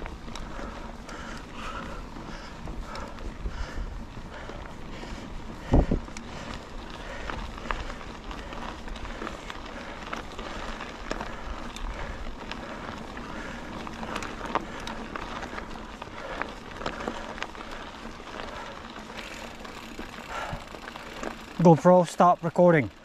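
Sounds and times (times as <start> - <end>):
bike tyres crunching on gravel: 0.0 - 23.0
stones clicking and bike rattling: 0.0 - 23.0.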